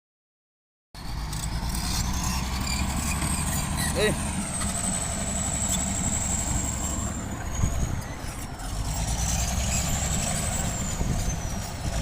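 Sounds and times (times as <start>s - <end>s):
bulldozer diesel engine rumbling: 1.0s - 12.0s.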